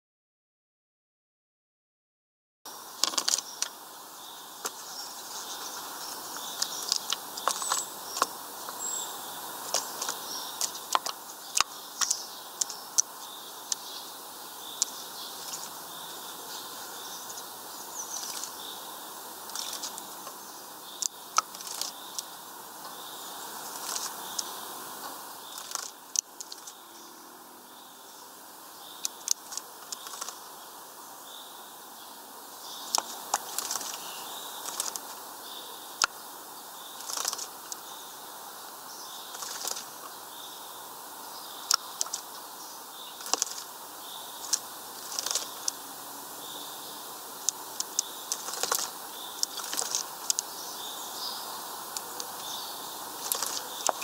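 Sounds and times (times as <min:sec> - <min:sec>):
steady background hiss: 0:02.7 - 0:54.0.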